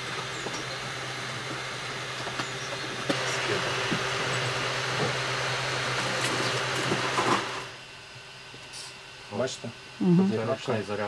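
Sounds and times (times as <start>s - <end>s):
printer motors and fans humming: 0.0s - 11.0s.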